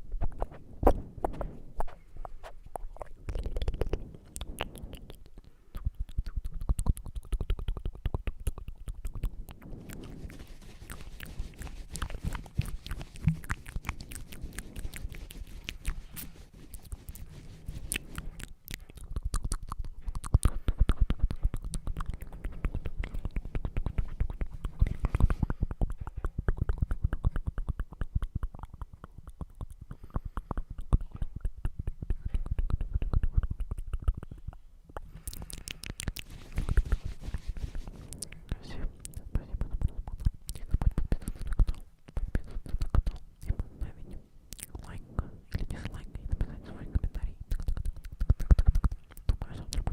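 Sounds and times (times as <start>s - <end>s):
wet mouth clicks and smacks: 0.2s - 49.9s.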